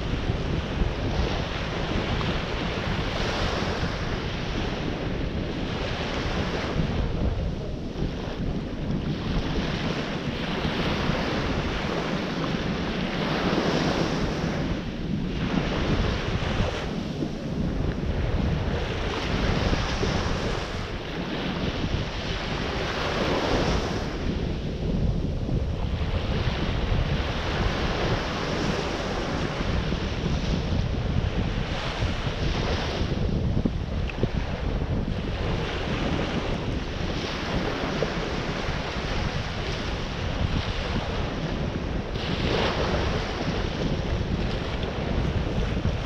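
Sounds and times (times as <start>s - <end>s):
ocean surf breaking on beach: 0.0s - 46.0s
wind buffeting microphone: 0.0s - 46.0s.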